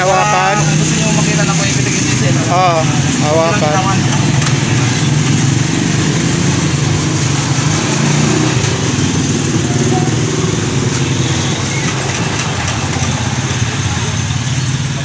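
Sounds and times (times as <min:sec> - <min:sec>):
single-cylinder engine running: 0:00.0 - 0:15.0.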